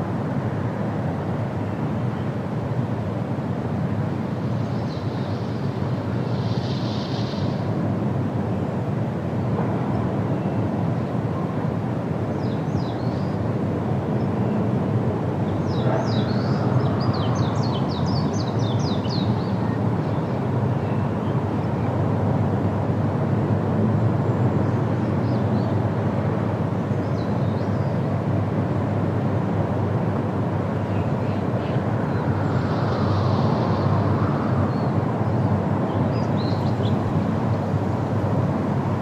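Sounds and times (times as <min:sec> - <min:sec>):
wind blowing through trees: 0:00.0 - 0:39.0.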